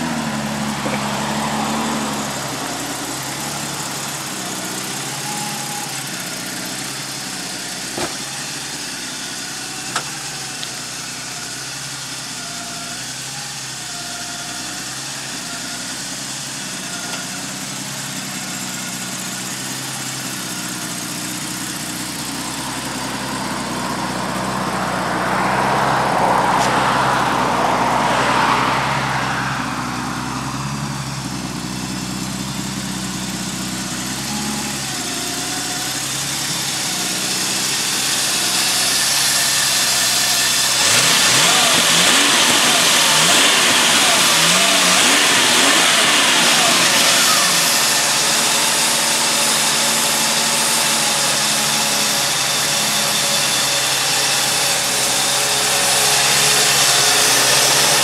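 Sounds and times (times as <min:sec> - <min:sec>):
car engine idling: 0:00.0 - 0:58.0
car engine revving: 0:00.0 - 0:58.0.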